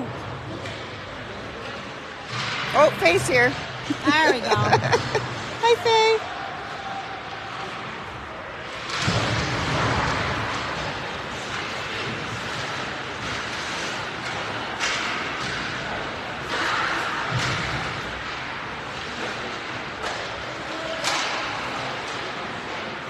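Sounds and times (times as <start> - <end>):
pucks and sticks hitting boards: 0.2 - 3.9, 7.0 - 23.0.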